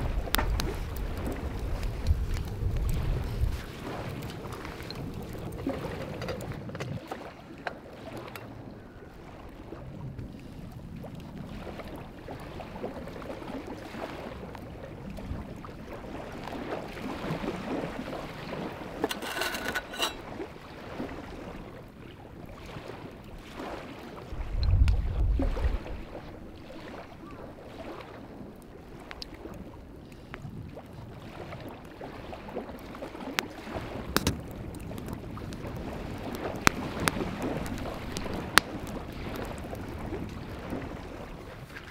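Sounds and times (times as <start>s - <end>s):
waves lapping on gravel: 0.0s - 8.5s, 15.3s - 21.8s, 22.5s - 41.9s
wind buffeting microphone: 0.0s - 19.1s, 20.0s - 41.9s
wind: 0.0s - 41.9s.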